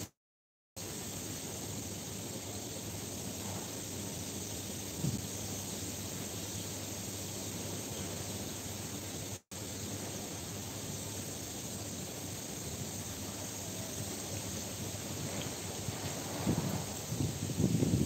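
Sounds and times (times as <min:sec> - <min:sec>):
outdoor noise hiss: 0:00.8 - 0:18.0.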